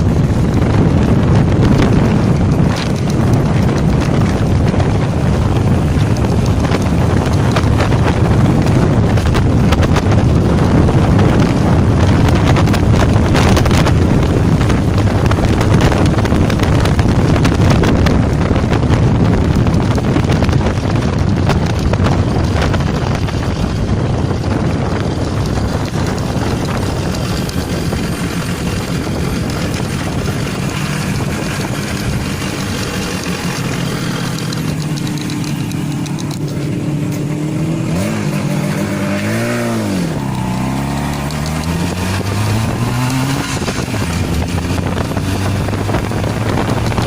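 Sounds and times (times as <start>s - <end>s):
motorcycle engine running: 0.0s - 47.0s
wind buffeting microphone: 0.0s - 47.0s.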